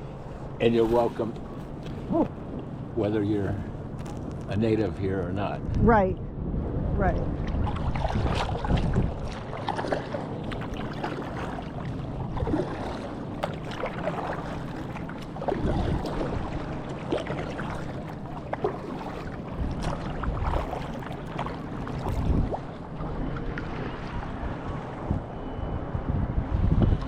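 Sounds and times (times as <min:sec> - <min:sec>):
water splashing around kayak: 0:00.0 - 0:04.9, 0:07.3 - 0:25.9.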